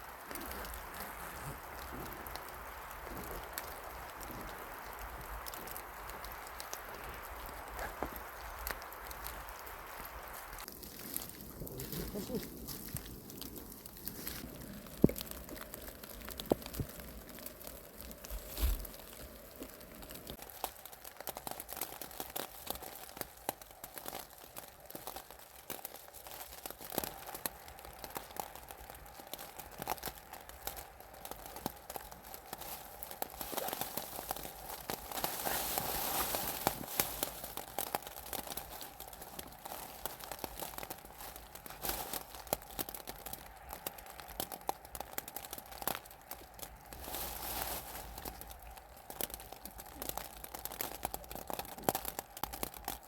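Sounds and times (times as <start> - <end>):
close rustling and crackling: 0.0 - 53.0.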